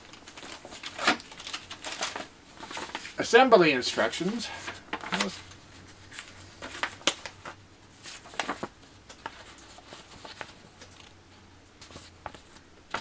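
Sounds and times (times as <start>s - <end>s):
paper rustling: 0.0s - 3.3s, 3.9s - 11.2s, 11.8s - 13.0s.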